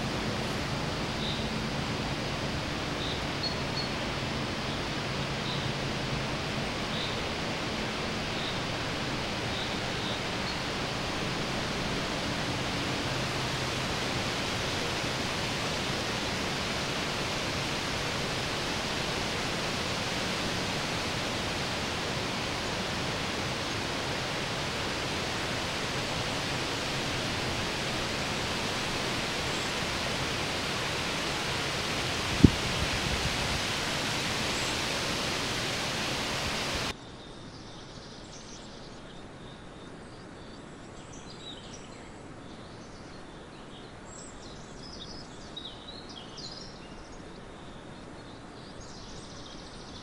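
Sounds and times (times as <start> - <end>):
outdoor background hiss: 0.0 - 50.0.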